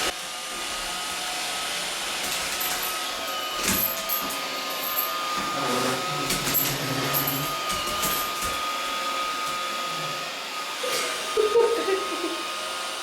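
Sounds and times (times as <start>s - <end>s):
robot vacuum running: 0.0s - 13.0s.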